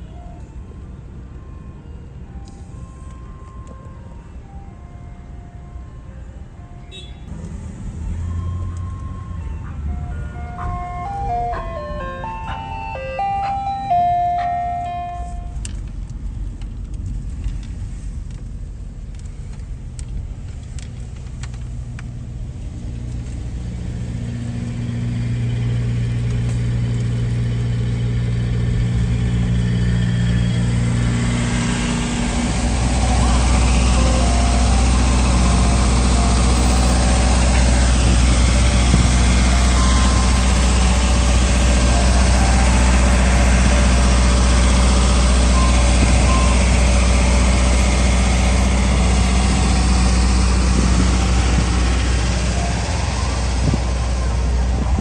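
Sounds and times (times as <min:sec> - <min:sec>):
deeper louder engine: 0:00.0 - 0:55.0
vehicle engine running: 0:07.3 - 0:55.0.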